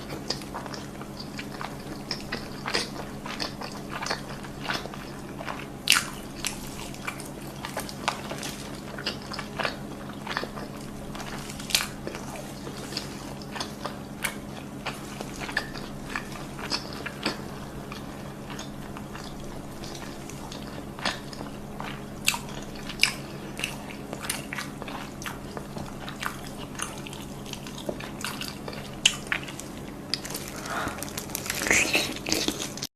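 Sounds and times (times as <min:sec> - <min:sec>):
mouth chewing food: 0:00.0 - 0:32.9.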